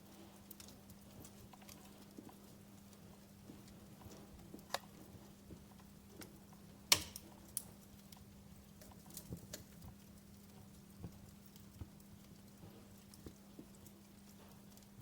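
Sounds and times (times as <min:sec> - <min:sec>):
faint steady hum: 0:00.0 - 0:15.0
wood fire crackling: 0:00.0 - 0:15.0.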